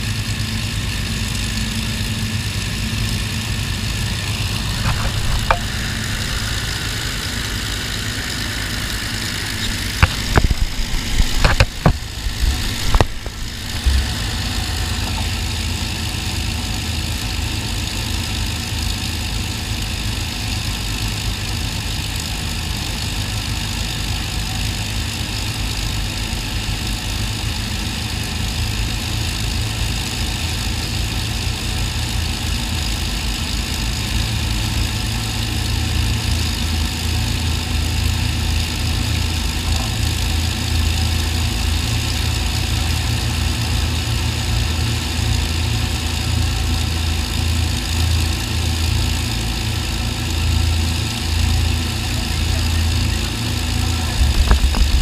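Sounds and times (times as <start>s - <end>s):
piston aircraft engines droning: 0.0s - 55.0s.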